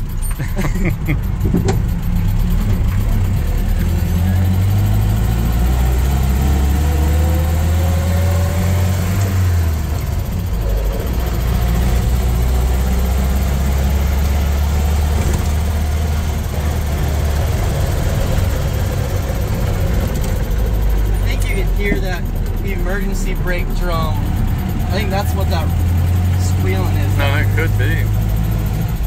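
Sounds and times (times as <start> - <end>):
vehicle engine drone: 0.0 - 29.0.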